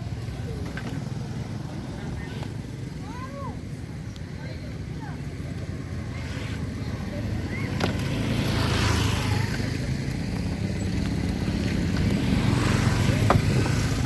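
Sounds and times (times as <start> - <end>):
faint voices: 0.0 - 14.0
vehicle engine rumbling: 0.0 - 14.0.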